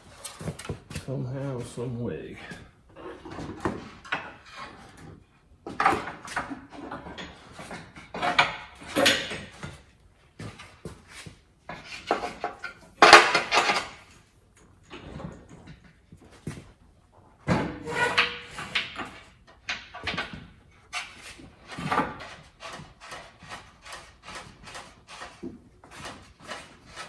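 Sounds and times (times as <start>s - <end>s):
tools clattering and knocking: 0.0s - 1.2s, 2.4s - 16.8s, 17.4s - 27.0s.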